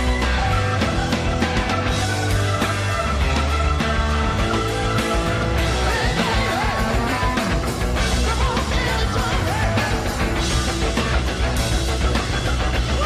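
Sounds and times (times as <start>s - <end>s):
live hard rock band: 0.0s - 13.0s.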